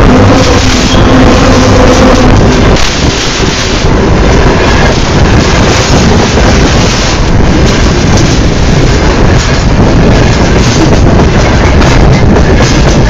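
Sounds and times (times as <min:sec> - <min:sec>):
steel wheels rumbling overhead: 0:00.0 - 0:13.0
wind buffeting microphone: 0:00.0 - 0:13.0.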